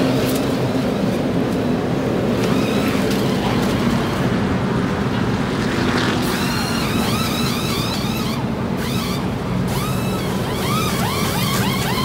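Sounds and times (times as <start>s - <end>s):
race car engines rumbling: 0.0s - 12.0s
engines revving up: 2.3s - 12.0s.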